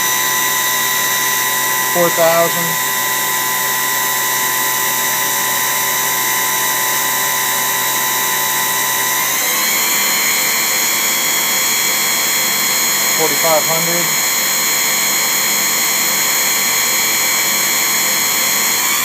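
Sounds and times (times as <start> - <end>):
lathe spindle whining: 0.0 - 19.0.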